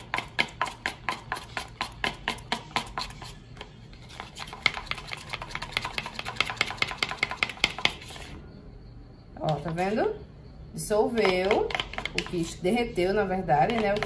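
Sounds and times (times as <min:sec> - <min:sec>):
spatula scraping a bowl: 0:00.0 - 0:08.4, 0:11.0 - 0:14.0.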